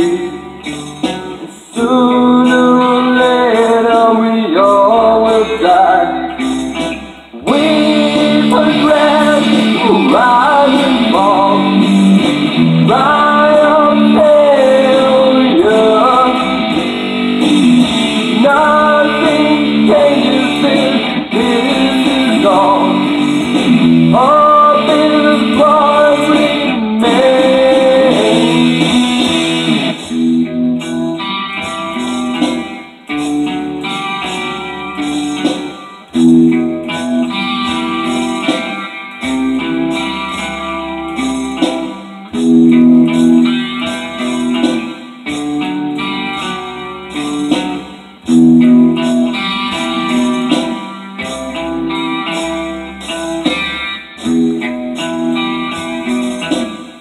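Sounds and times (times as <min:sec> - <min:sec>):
electric guitar lead line: 0:00.0 - 0:57.0
strummed guitar chords: 0:00.0 - 0:57.0.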